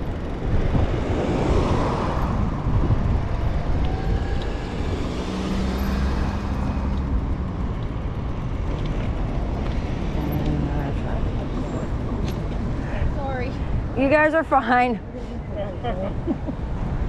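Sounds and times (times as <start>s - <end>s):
wind on microphone: 0.0s - 14.0s
car traffic passing: 0.0s - 17.0s
steady engine hum: 0.0s - 17.0s.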